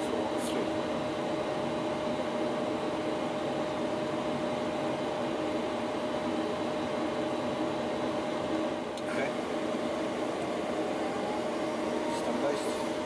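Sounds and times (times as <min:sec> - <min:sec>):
cockpit engine and airflow hiss: 0:00.0 - 0:13.0.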